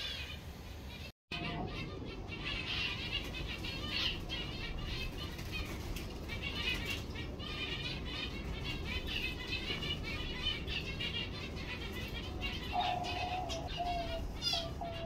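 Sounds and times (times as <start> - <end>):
small birds chirping and twittering: 0.0 - 15.0
steady low rumble: 0.5 - 15.0.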